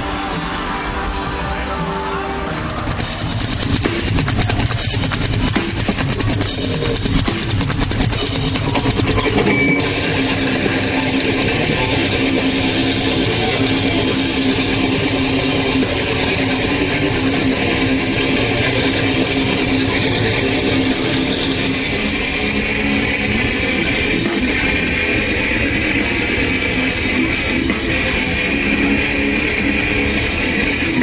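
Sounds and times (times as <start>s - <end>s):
electric guitars: 0.0s - 31.0s
fast dense drumming: 2.4s - 31.0s.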